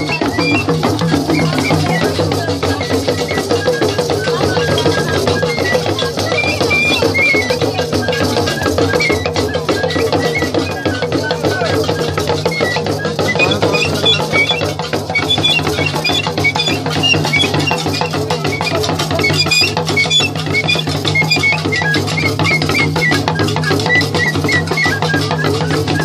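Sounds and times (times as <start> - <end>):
talking drums and hand drums: 0.0 - 26.0.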